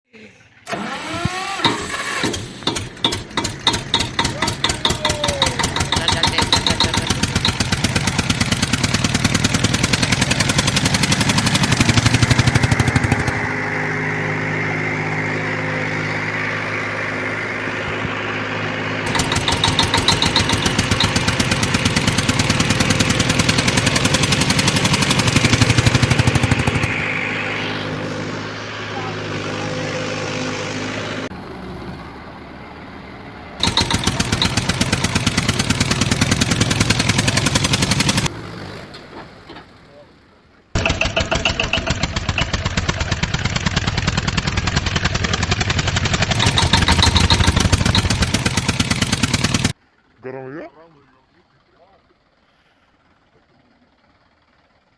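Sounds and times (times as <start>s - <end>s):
tractor engine labouring: 0.2s - 54.9s.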